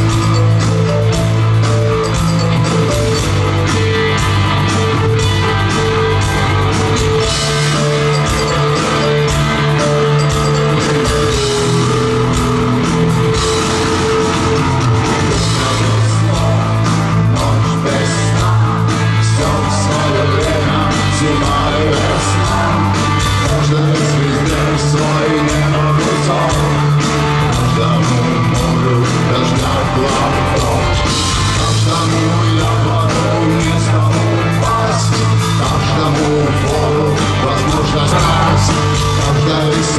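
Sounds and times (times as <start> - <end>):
loud rock band playing: 0.0 - 39.9.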